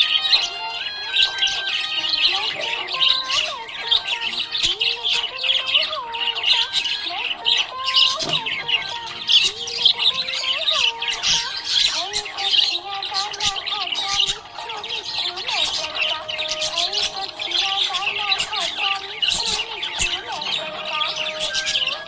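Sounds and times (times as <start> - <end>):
budgerigars chirping: 0.0 - 22.0.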